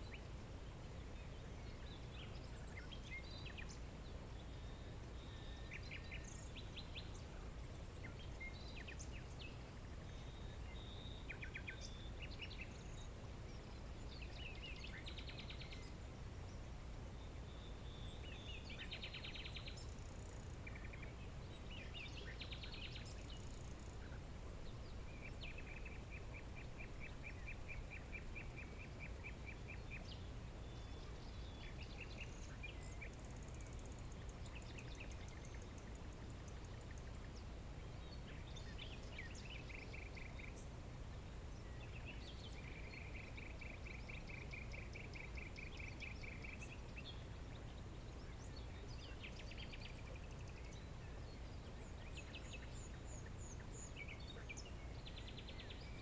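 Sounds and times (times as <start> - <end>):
bird chirps: 8.0 - 16.6, 17.2 - 40.7, 41.5 - 56.0.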